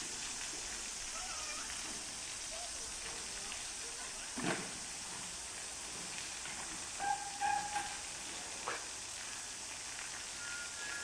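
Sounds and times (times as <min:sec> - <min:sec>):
splashing water hiss: 0:00.0 - 0:11.0.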